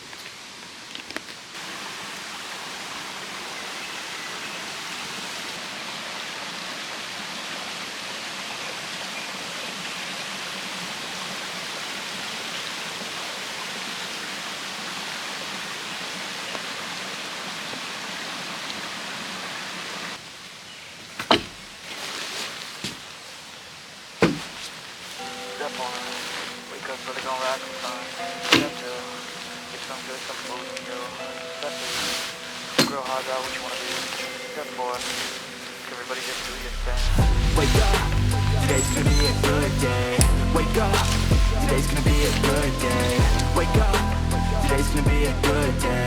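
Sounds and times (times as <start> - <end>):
stream flowing: 0.0 - 46.0.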